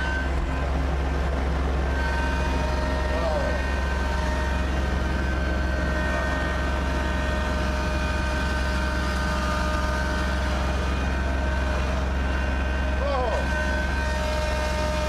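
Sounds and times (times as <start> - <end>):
diesel tractor engine droning: 0.0 - 15.0
steady whine: 0.0 - 15.0.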